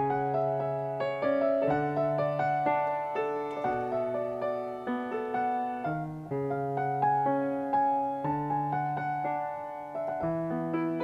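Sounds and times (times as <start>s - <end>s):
electric piano chords: 0.0s - 11.0s.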